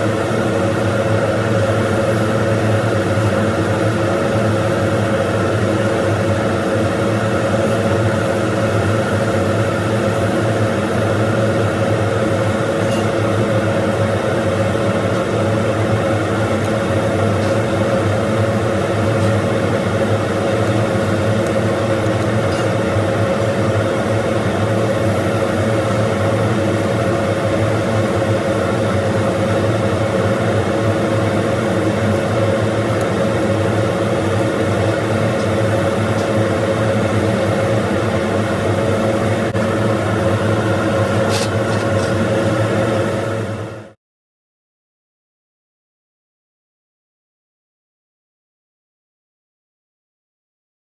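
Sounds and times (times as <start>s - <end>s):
welder electrical hum: 0.0s - 44.0s.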